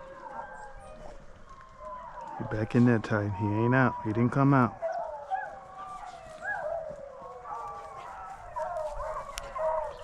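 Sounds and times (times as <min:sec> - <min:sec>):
hounds baying: 0:00.0 - 0:10.0.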